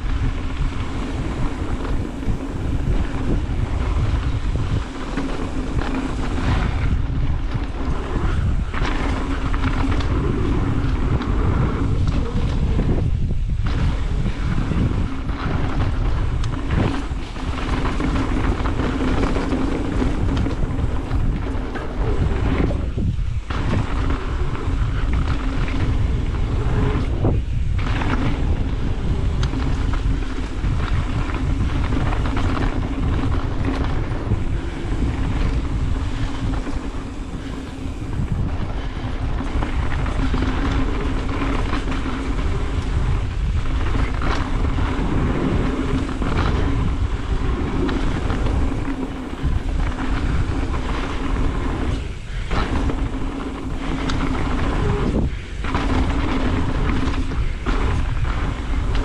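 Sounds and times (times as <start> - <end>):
bike tyres on dirt trail: 0.0 - 59.0
wind rushing over microphone: 0.0 - 59.0.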